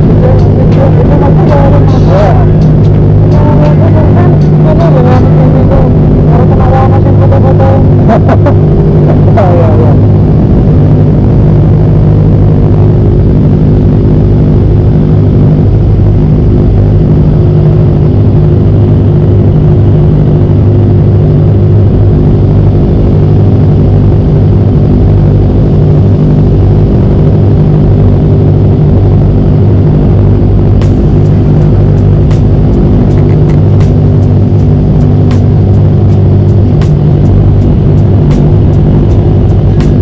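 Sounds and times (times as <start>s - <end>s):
motorcycle engine droning: 0.0s - 40.0s.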